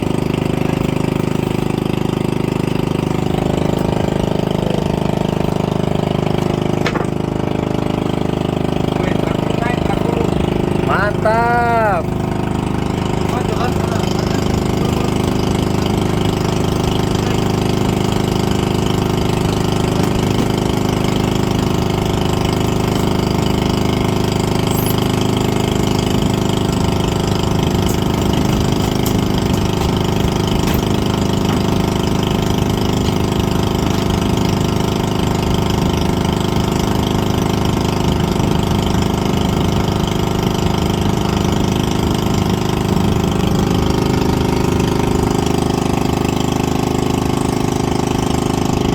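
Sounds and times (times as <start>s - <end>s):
boat engine running steadily: 0.0s - 48.9s.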